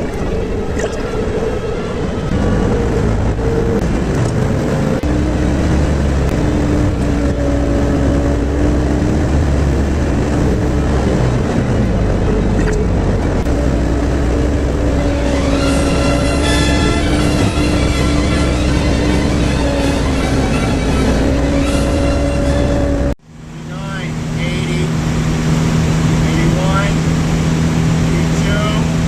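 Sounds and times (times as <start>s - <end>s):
road noise: 0.0s - 29.0s
van engine droning: 0.0s - 29.0s.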